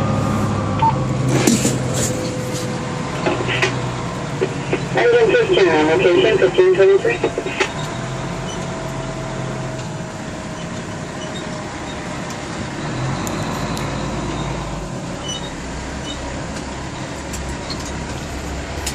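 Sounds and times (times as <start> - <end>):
fire engine motor running: 0.0 - 18.9.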